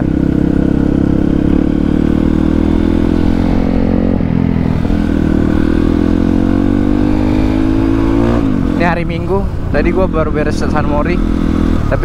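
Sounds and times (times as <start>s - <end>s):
dirt bike engine cruising: 0.0s - 12.0s.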